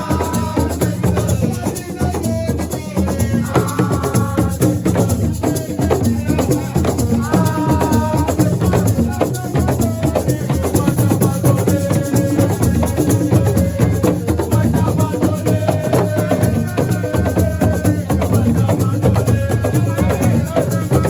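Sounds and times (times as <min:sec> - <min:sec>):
shaker rattles: 0:00.0 - 0:21.0.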